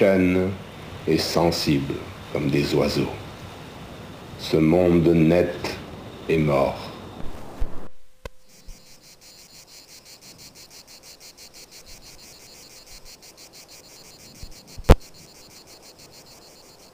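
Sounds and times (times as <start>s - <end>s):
crickets chirping: 0.0s - 16.9s.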